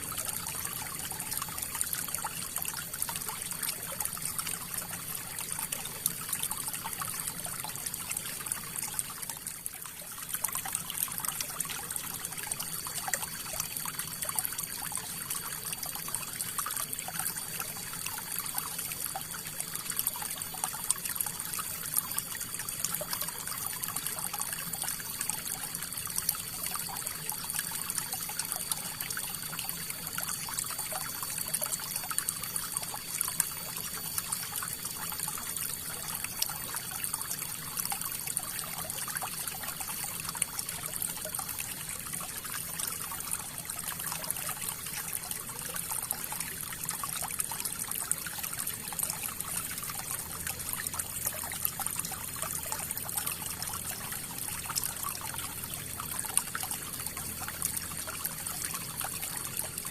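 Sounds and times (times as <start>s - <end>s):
river water trickling and splashing: 0.0s - 59.9s.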